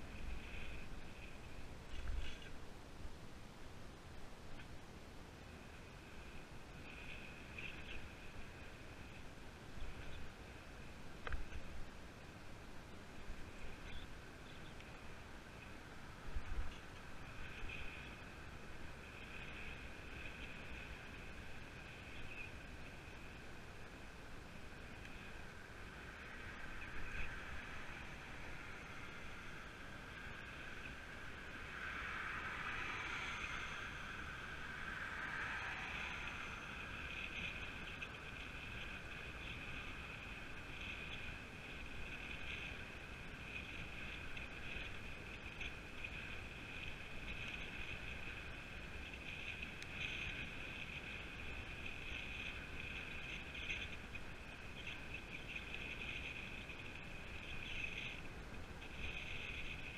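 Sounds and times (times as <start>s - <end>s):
bike tyre and drivetrain noise: 0.0s - 3.2s, 4.4s - 59.9s.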